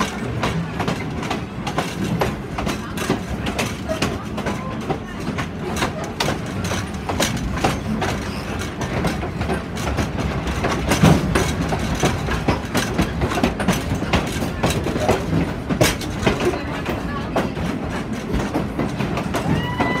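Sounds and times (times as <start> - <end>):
clanks and rattles: 0.0 - 20.0
train rumble: 0.0 - 20.0
train wheels clicking over rail joints: 0.0 - 20.0.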